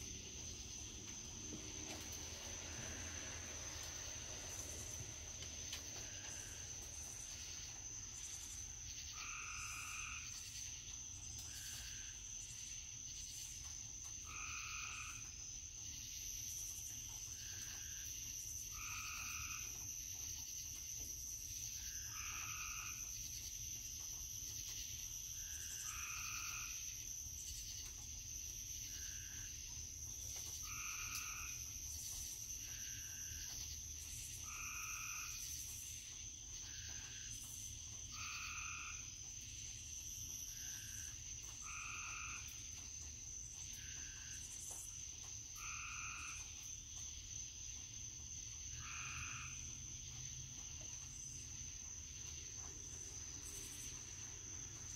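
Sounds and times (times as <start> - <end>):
frogs calling: 0.0 - 54.9.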